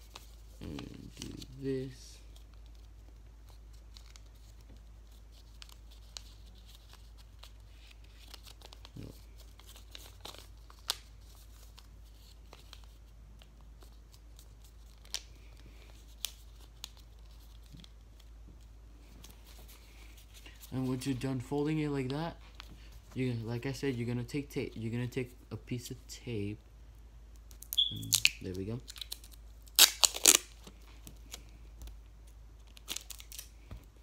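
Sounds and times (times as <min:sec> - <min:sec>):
paper crinkling and crackling: 0:00.0 - 0:24.8, 0:28.5 - 0:34.0.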